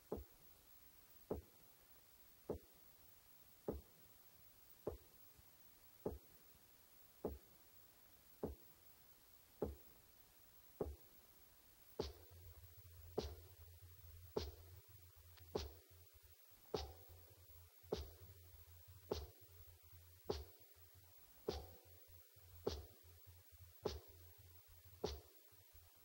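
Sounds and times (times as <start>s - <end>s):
faint hiss: 0.0s - 26.0s.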